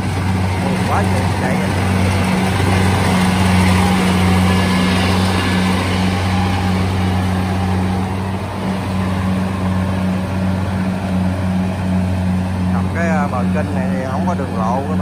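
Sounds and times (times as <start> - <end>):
diesel engine hum: 0.0 - 15.0
harvester threshing machinery: 0.0 - 15.0.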